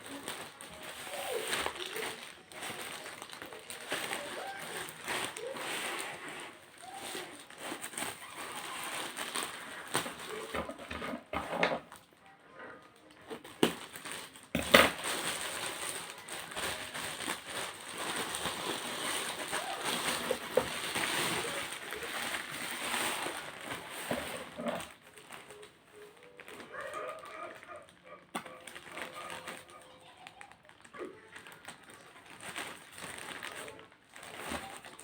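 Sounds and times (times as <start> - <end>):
packaging crinkling and rustling: 0.0 - 35.0.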